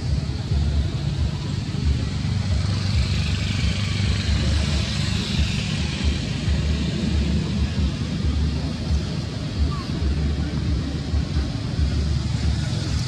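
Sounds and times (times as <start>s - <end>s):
high background hiss: 0.0s - 13.0s.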